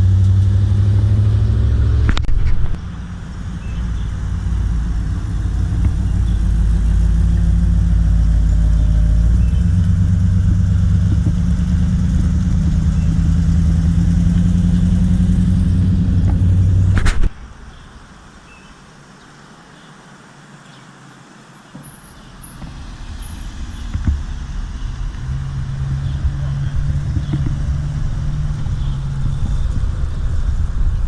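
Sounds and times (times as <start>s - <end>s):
car engine idling: 0.0s - 18.4s, 21.8s - 31.0s.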